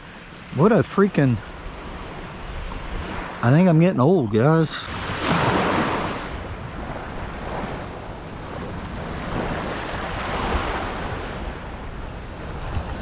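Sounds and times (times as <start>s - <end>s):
surf washing onto beach: 0.4s - 13.0s
wind rumbling on microphone: 1.4s - 13.0s.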